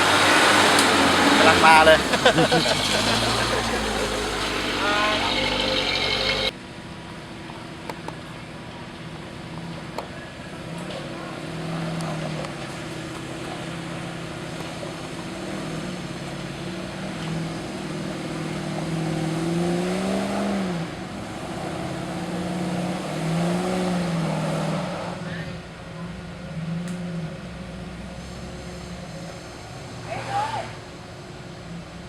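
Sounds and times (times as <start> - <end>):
off-road vehicle engine revving: 0.0 - 6.6, 9.4 - 32.0.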